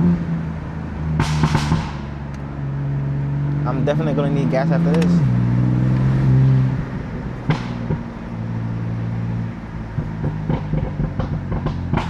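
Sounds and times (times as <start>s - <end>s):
car engine driving: 0.0s - 12.0s.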